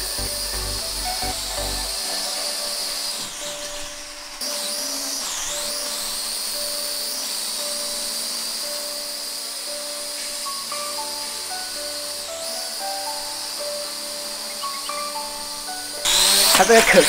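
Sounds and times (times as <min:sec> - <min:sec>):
toy drone propellers whining: 0:00.0 - 0:17.0.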